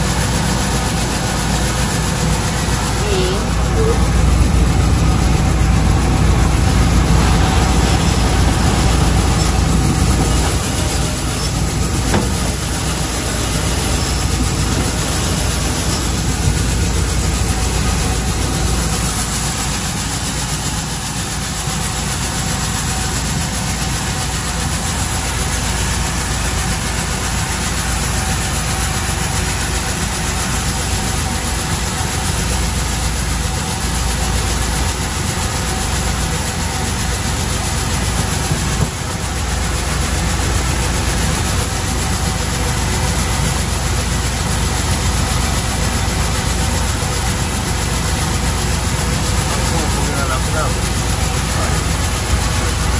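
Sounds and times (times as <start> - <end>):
rice milling machine drone: 0.0 - 52.9.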